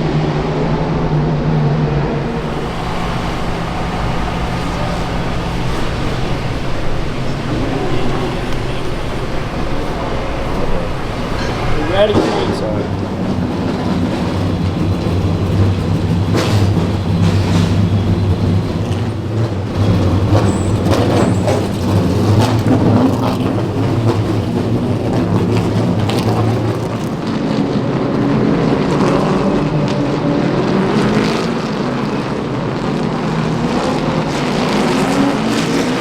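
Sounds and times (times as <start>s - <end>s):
race car engines droning: 0.0s - 36.0s.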